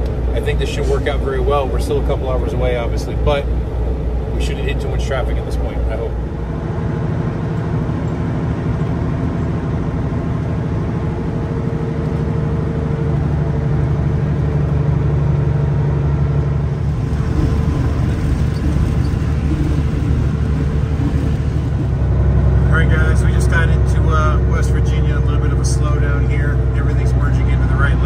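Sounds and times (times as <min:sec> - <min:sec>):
diesel truck engine droning: 0:00.0 - 0:28.0
tyre and road noise: 0:00.0 - 0:28.0.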